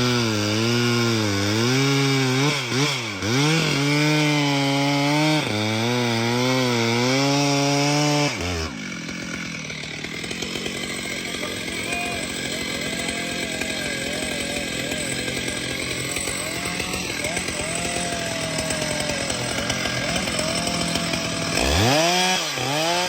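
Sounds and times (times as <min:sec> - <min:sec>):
chainsaw cutting through tree: 0:00.0 - 0:23.0.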